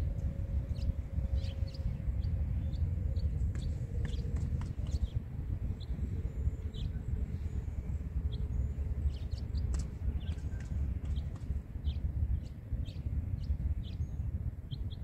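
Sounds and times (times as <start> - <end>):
wind buffeting microphone: 0.0 - 15.0
small birds chirping: 0.6 - 15.0.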